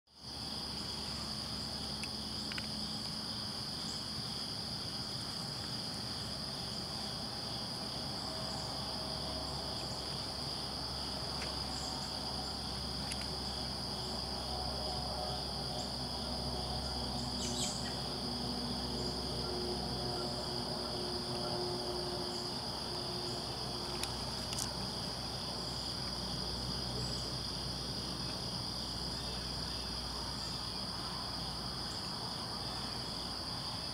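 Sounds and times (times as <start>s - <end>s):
insects trilling: 0.2s - 33.9s.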